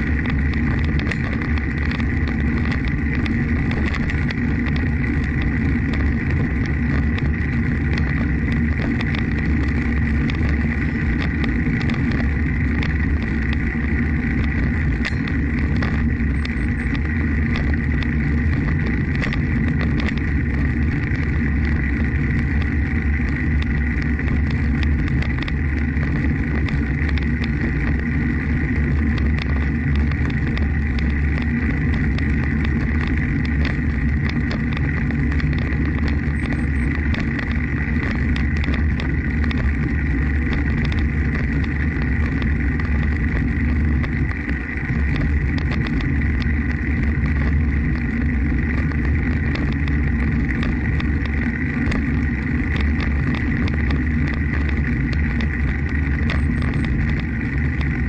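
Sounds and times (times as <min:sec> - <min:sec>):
faint high whine: 0:00.0 - 0:58.0
wind buffeting microphone: 0:00.0 - 0:58.0
light ticks: 0:00.1 - 0:58.0.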